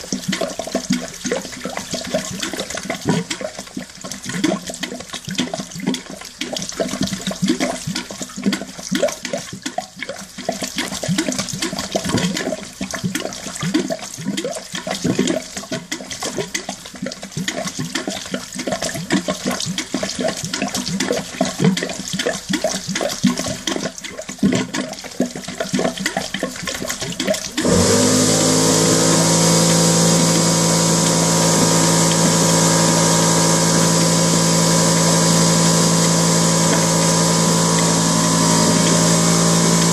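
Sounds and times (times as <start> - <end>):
pump motor humming: 0.0 - 39.9
water gushing into toilet bowl: 0.0 - 39.9.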